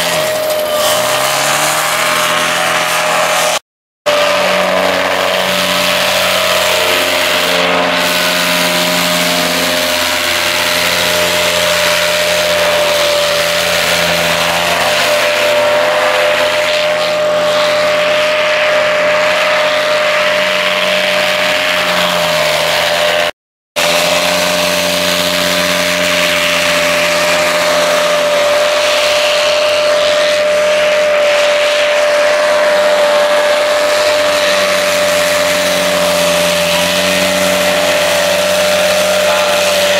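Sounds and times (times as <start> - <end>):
paramotor engines droning: 0.0 - 39.9.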